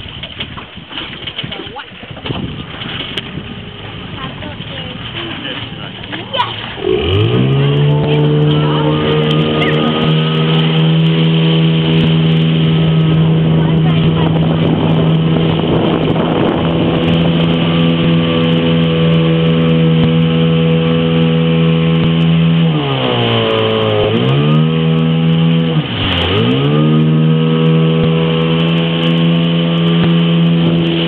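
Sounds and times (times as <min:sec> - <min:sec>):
motorboat engine running: 0:00.0 - 0:31.0.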